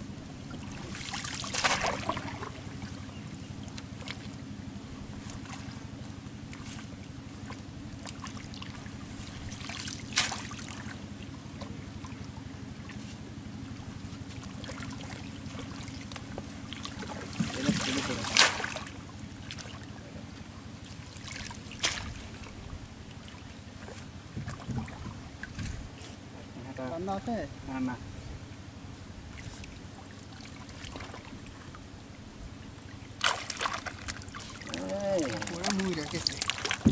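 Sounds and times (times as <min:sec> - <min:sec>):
steady low hum: 0:00.0 - 0:36.9
water sloshing and splashing: 0:00.3 - 0:26.6, 0:29.2 - 0:36.9.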